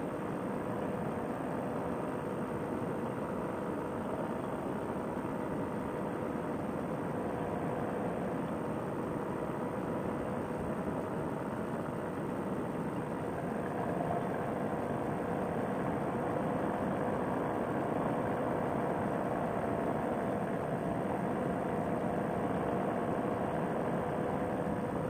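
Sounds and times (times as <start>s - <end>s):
two-stroke engine and propeller: 0.0s - 25.0s.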